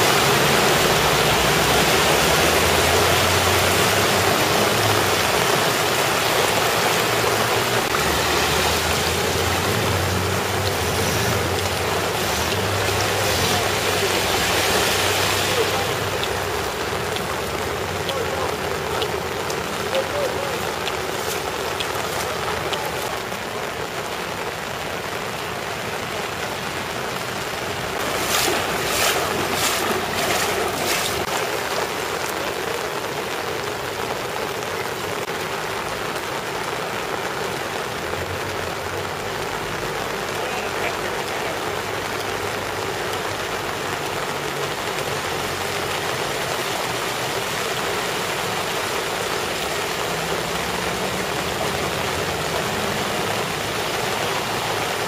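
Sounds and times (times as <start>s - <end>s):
cars driving through floodwater: 0.0s - 55.0s
rain: 0.0s - 55.0s.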